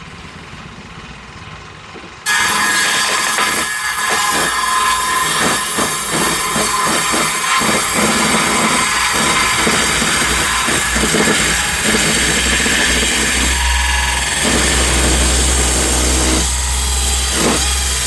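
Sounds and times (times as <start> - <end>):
power saw ripping through timber: 2.3 - 18.0.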